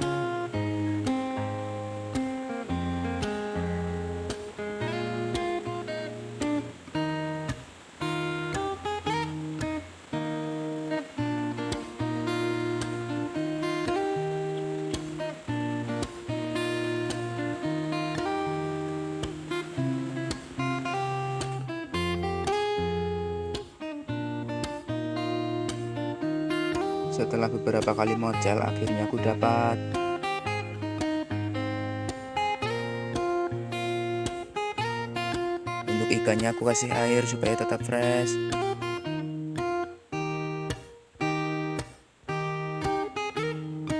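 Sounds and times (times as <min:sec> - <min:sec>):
acoustic guitar strumming chords: 0:00.0 - 0:43.9.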